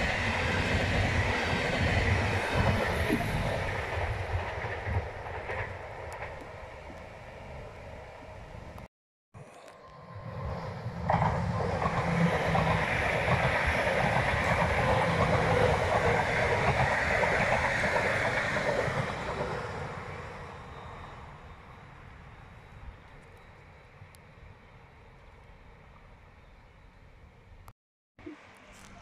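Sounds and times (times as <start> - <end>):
trains passing on rails: 0.0 - 27.6.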